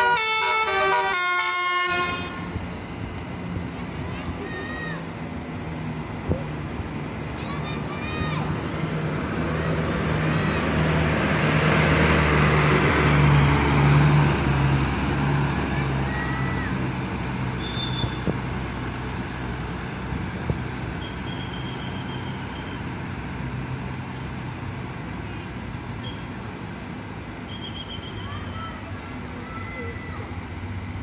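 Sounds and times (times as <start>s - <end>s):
bus diesel engine driving past: 0.0s - 31.0s.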